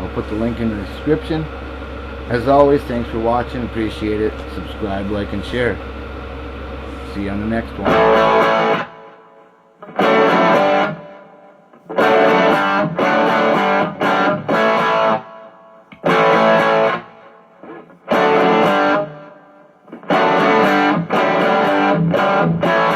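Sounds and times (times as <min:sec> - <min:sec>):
distorted electric guitar chords: 0:00.0 - 0:22.9.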